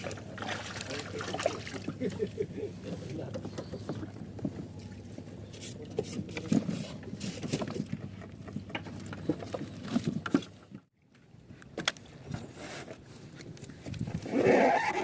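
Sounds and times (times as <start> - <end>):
water: 0.0 - 15.0
wind: 0.0 - 15.0.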